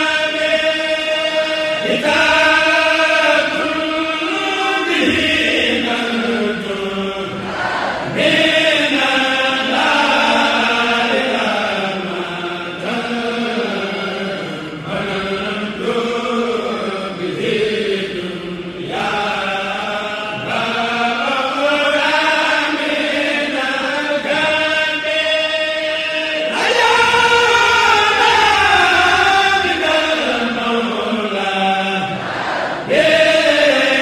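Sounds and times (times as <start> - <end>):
chorus of voices chanting: 0.0 - 34.0.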